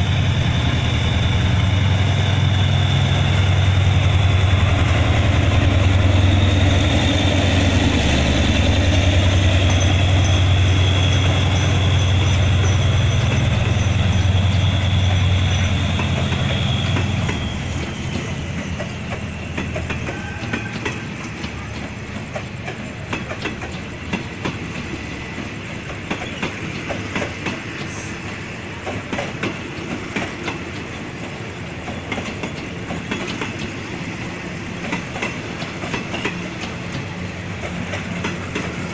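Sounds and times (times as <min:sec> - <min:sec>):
diesel locomotive engine hum: 0:00.0 - 0:38.9
train wheels clickety-clack: 0:00.0 - 0:38.9.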